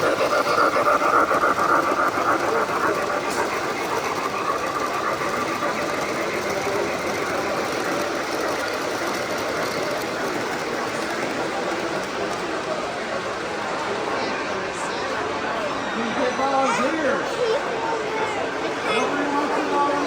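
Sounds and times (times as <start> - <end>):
model train whirring rattle: 0.0 - 20.0
people chatting: 0.0 - 20.0.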